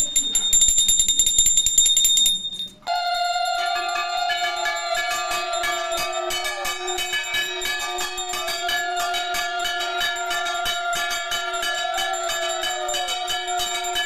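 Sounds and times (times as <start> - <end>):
hand bell ringing rapidly: 0.0 - 14.0.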